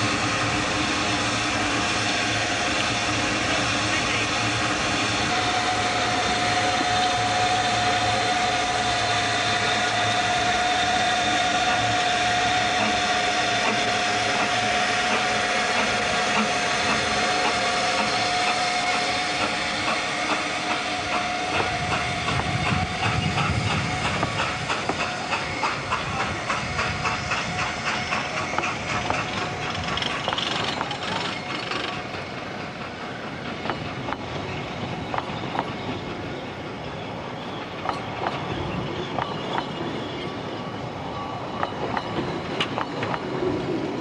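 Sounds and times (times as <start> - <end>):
train wheels clattering: 0.0 - 40.8, 41.5 - 44.0
steam locomotive hissing: 0.0 - 44.0
whistling tone in steam: 0.0 - 44.0.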